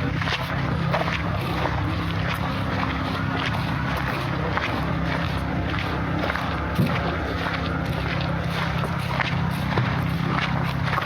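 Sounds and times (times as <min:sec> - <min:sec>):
constant low hum: 0:00.0 - 0:11.0
footsteps on a path: 0:00.0 - 0:11.0.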